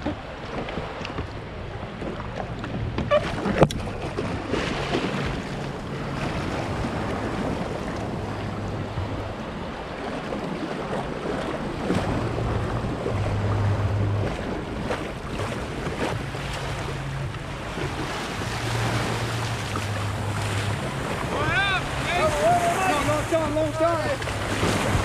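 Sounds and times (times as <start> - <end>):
seawater sloshing and splashing: 0.0 - 25.0
wind buffeting microphone: 0.0 - 25.0.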